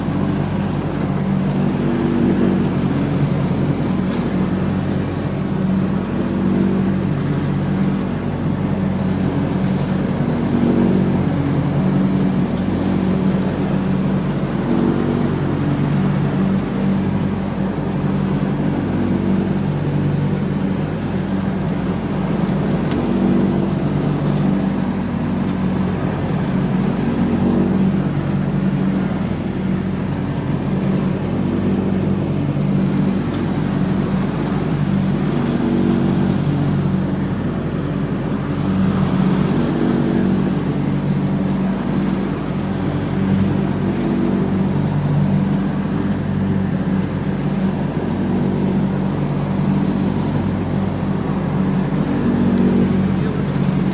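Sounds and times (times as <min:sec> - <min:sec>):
lawn tractor engine running: 0:00.0 - 0:53.9.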